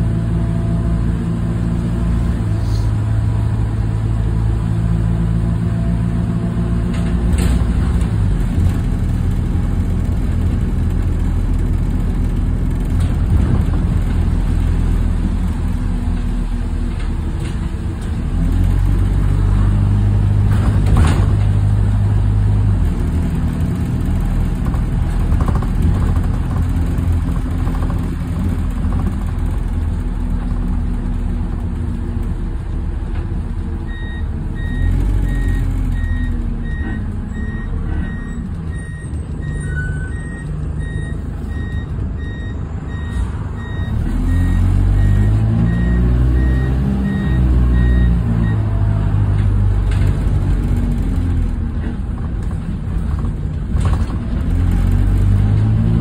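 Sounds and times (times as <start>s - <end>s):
bus diesel engine under load: 0.0s - 56.0s.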